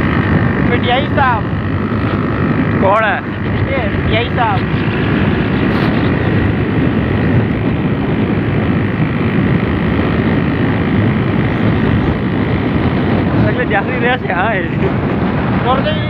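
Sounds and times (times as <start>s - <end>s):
road and wind noise: 0.0s - 16.0s
vehicle engine rumble: 0.0s - 16.0s.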